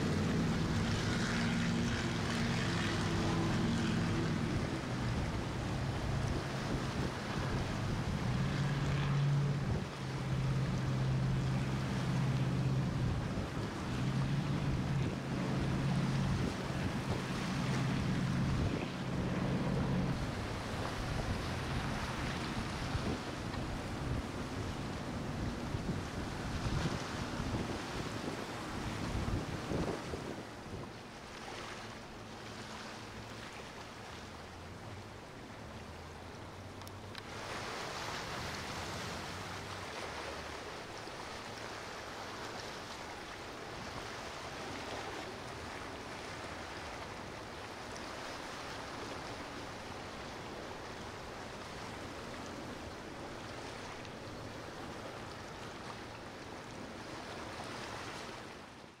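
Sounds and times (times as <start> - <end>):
water rushing: 0.0 - 59.0
wind: 0.0 - 59.0.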